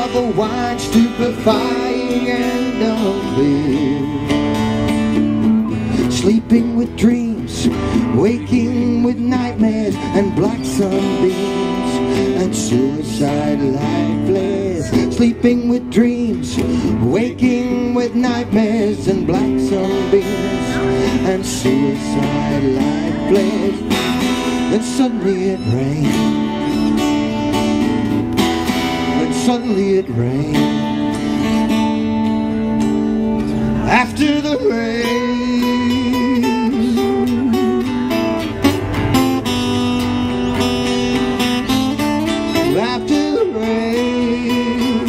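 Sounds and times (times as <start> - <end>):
acoustic guitars strumming: 0.0 - 45.0.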